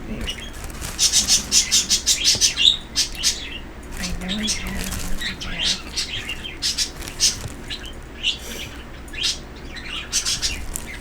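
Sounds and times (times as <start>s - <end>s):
pet birds chirping: 0.0s - 11.0s.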